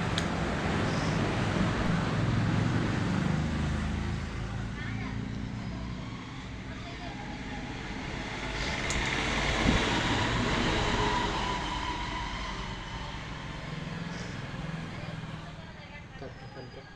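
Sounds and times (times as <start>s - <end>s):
vehicle engine passing: 0.0s - 16.9s.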